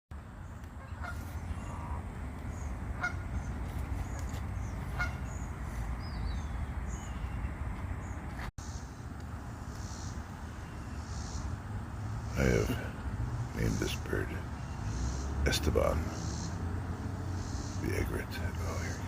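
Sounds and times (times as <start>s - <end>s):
small birds chirping: 0.2s - 19.0s
honking bird calls: 0.4s - 7.5s, 9.7s - 19.0s.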